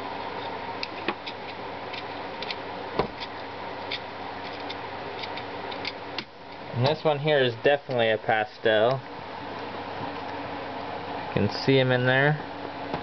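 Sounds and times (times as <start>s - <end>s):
fan-like hum: 0.0s - 13.0s.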